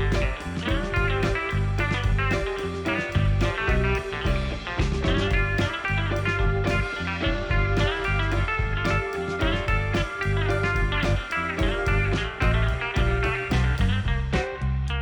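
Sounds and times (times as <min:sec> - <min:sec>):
blues-rock music with guitar: 0:00.0 - 0:15.0.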